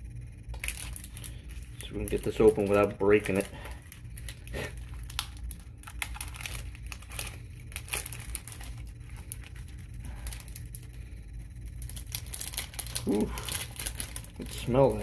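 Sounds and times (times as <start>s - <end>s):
faint low hum: 0.0s - 15.0s
foil pouch crinkling: 0.5s - 15.0s.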